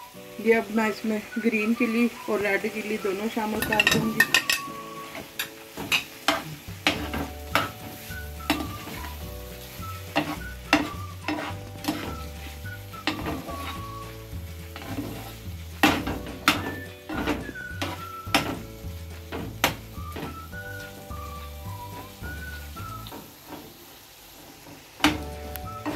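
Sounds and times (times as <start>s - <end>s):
liver sizzling: 0.0s - 25.9s
spatula scraping a pan: 3.5s - 25.9s.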